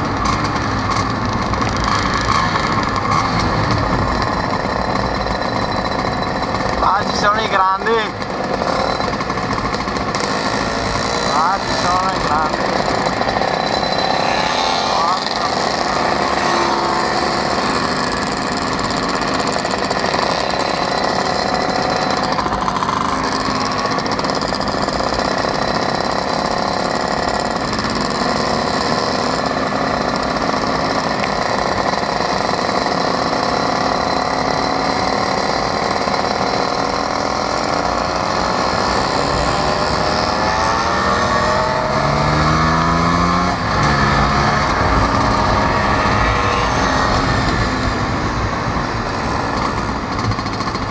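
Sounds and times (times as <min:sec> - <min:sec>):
scooter engine running: 0:00.0 - 0:50.9.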